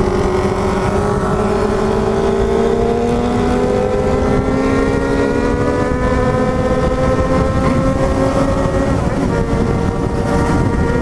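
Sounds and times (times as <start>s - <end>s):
motorcycle engine accelerating: 0.0s - 11.0s
wind rumble on microphone: 0.0s - 11.0s.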